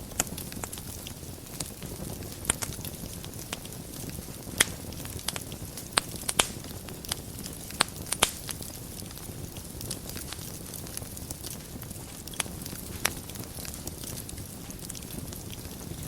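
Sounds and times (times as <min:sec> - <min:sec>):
low rush of flame: 0:00.0 - 0:16.0
wood crackling and popping: 0:00.0 - 0:16.0.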